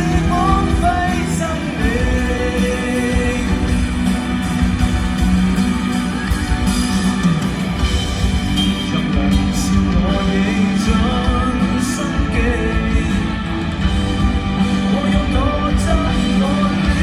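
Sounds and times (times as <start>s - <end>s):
live rock band instrumental: 0.0s - 17.0s.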